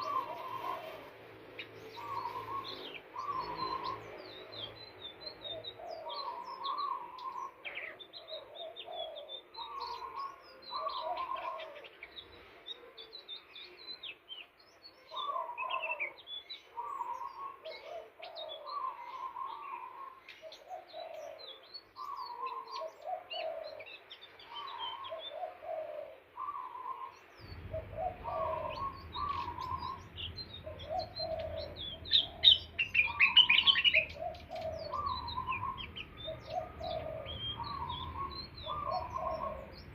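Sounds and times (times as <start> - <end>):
bird high chirps: 0.0 - 39.9.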